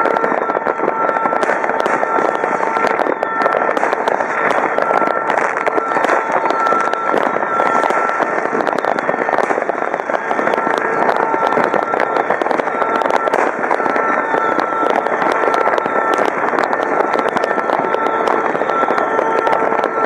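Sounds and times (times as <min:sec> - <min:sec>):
fireworks crackling and popping: 0:00.0 - 0:20.0.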